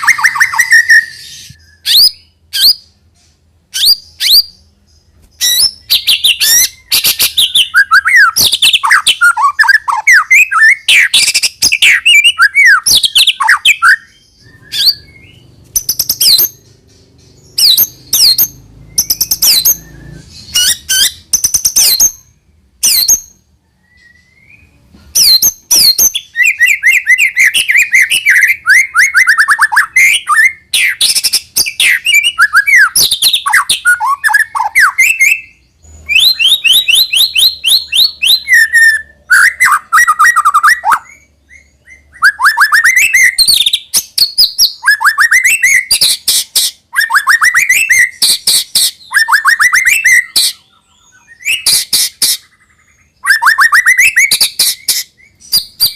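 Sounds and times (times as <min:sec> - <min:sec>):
songbird singing: 0:00.0 - 0:55.9.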